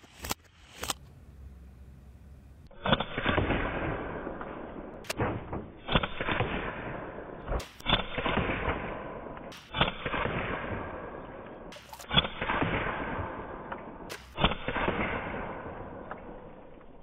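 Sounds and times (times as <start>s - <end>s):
air pistol shots: 2.7s - 16.4s.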